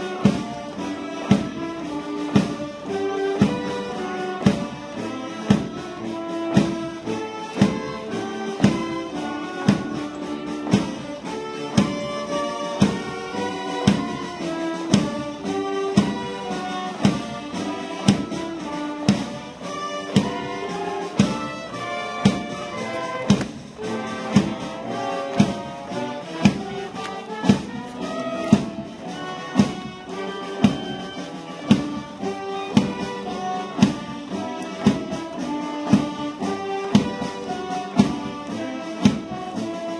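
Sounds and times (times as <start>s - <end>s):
brass band playing march: 0.0s - 39.9s
strong drum beat: 0.0s - 39.9s.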